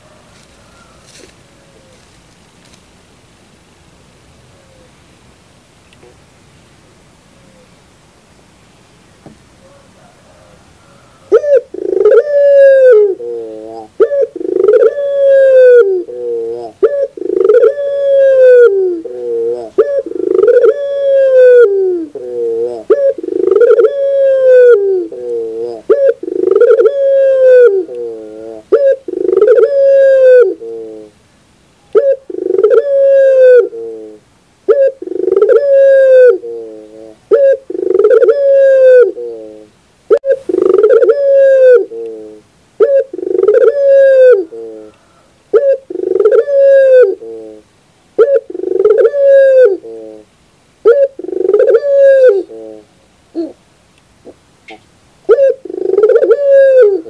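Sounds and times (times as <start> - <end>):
dove cooing: 9.6 - 31.2, 31.8 - 53.6, 54.2 - 57.0.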